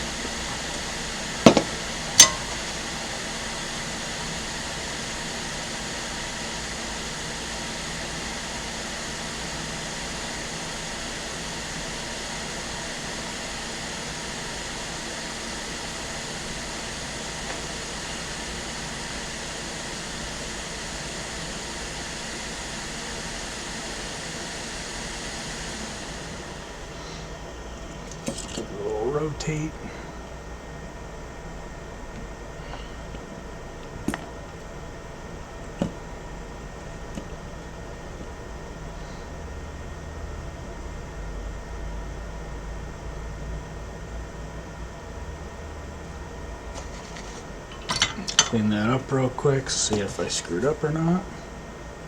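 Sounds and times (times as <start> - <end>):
fan-like whirring: 0.0 - 52.0.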